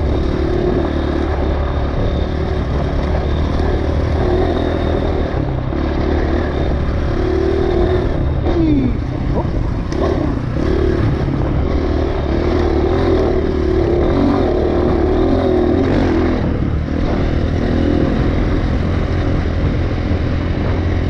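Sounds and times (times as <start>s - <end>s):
dirt bike engine revving: 0.0s - 21.0s
low rumble: 0.0s - 21.0s.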